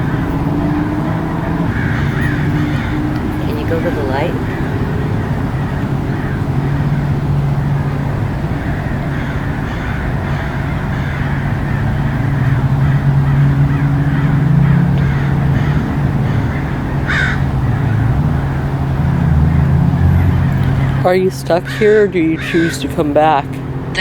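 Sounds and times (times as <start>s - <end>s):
crow cawing: 0.0s - 18.4s, 21.6s - 23.0s.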